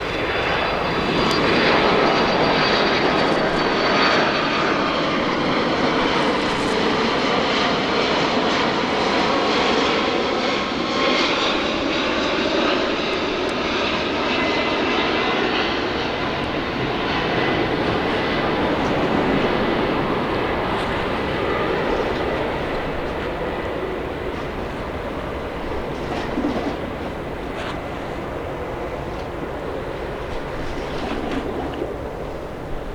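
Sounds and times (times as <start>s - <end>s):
jet engine rush: 0.0s - 32.9s.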